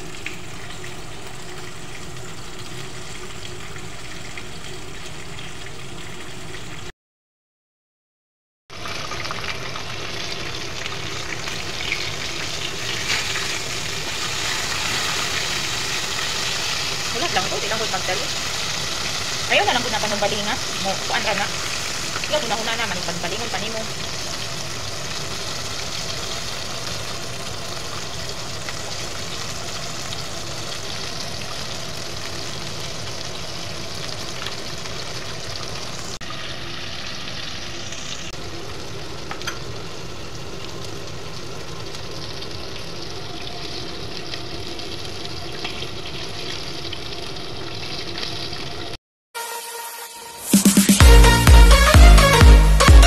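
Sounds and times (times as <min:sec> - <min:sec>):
chicken deep-frying in oil: 0:00.0 - 0:06.9, 0:08.7 - 0:49.0.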